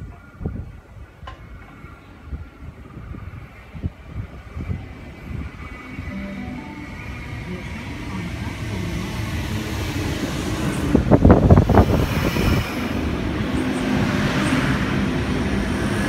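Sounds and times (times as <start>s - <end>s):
electric train rumbling past: 0.9s - 16.0s.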